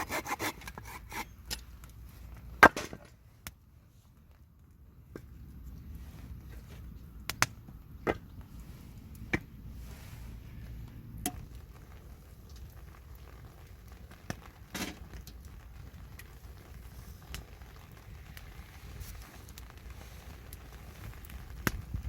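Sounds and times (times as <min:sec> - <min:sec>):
burning wood popping: 0:00.0 - 0:22.0
campfire rumble: 0:00.5 - 0:22.0.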